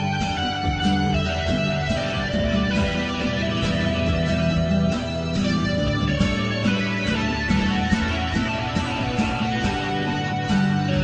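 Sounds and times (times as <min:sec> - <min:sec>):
song with guitar: 0:00.0 - 0:11.0.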